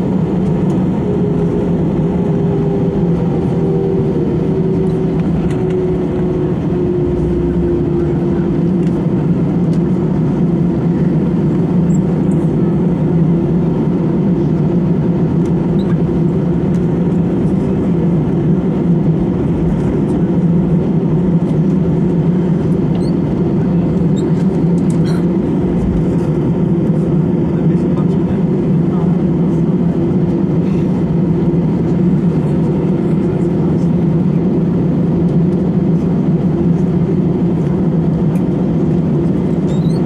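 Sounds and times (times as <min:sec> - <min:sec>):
jet engines humming in cabin: 0:00.0 - 0:40.0.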